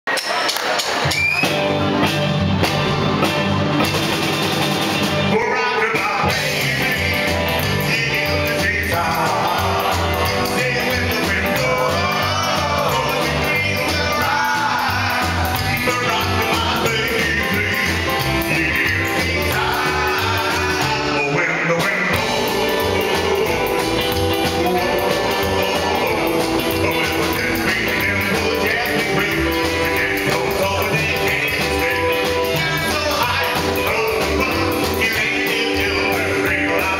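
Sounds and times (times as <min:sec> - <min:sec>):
rock and roll band playing: 0:00.1 - 0:36.9
man singing: 0:05.2 - 0:36.9.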